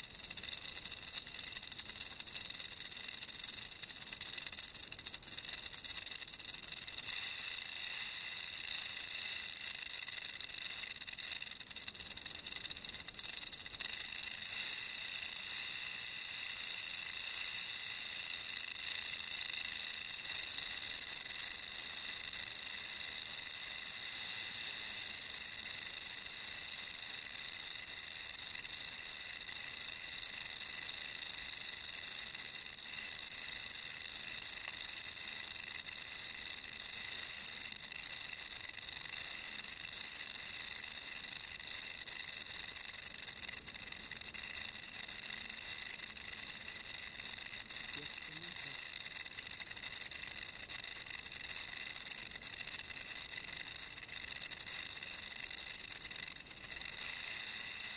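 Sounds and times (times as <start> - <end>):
rattlesnake tail rattle buzz: 0.0 - 57.9.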